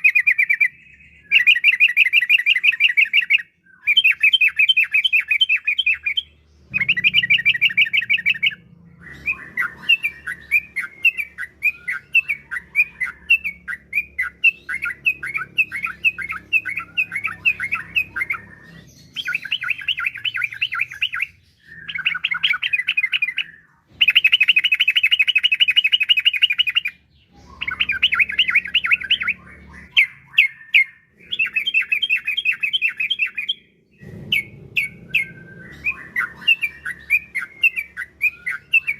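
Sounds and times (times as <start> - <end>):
bird singing chattering phrases: 0.0 - 38.9.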